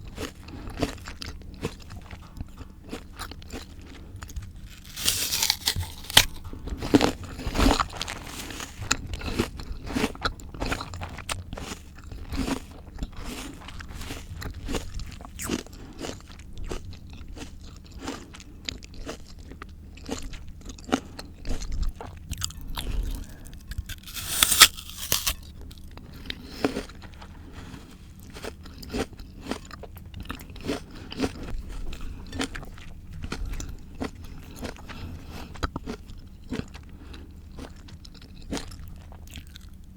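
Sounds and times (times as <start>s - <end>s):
crunching and chewing fruit: 0.0s - 39.9s.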